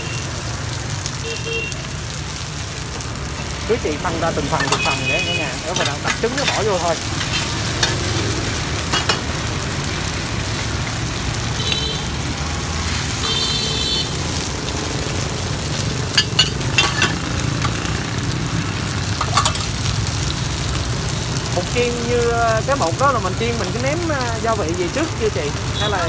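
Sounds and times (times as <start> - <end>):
cake sizzling in oil: 0.0 - 26.0.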